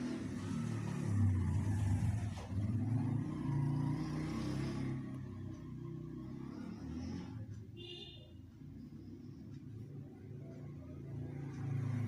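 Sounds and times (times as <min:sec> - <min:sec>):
vehicle engine revving: 0:00.0 - 0:07.6, 0:08.8 - 0:12.0.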